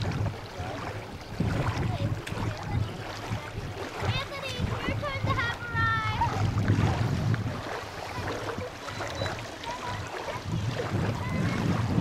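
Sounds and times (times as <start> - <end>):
small waves lapping at shore: 0.0 - 12.0
wind gusting on microphone: 0.0 - 12.0
faint distant voices: 0.4 - 12.0.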